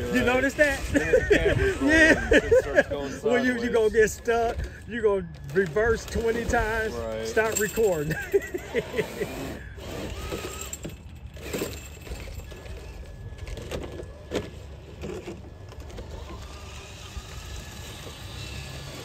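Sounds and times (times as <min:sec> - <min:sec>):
toy car motor whirring: 0:00.0 - 0:19.0.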